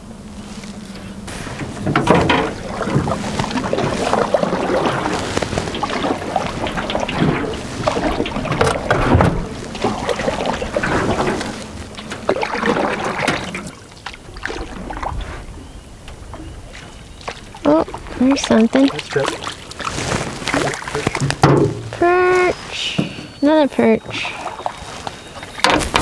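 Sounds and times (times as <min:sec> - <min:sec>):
water lapping against canoe hull: 0:00.0 - 0:26.0.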